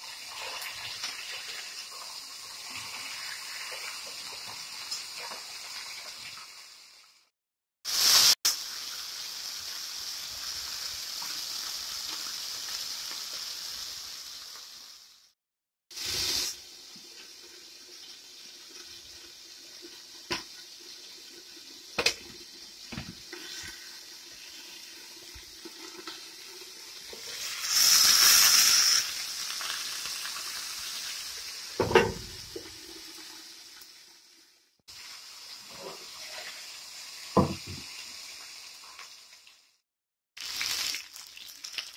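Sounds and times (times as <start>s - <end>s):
chicken sizzling in hot oil: 0.0s - 39.8s, 40.4s - 41.9s.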